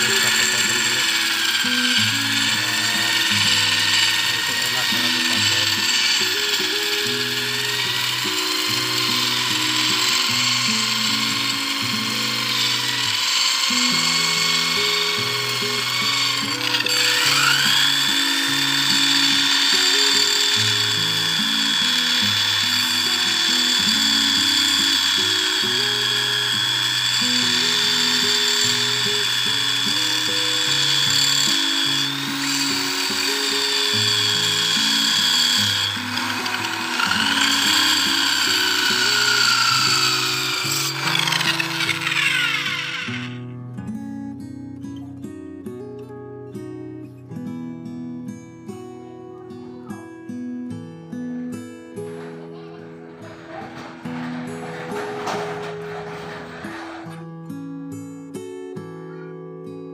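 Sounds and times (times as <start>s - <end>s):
grinder whining against steel blade: 0.0s - 43.5s, 52.0s - 57.2s.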